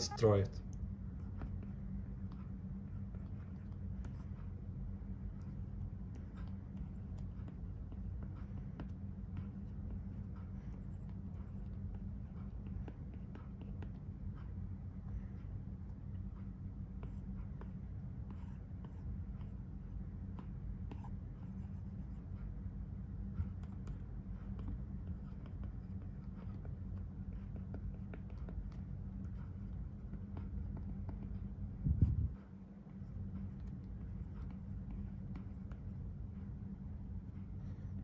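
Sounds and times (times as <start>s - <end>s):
steady low hum: 0.0s - 38.0s
stylus scratching and tapping on screen: 1.1s - 37.6s.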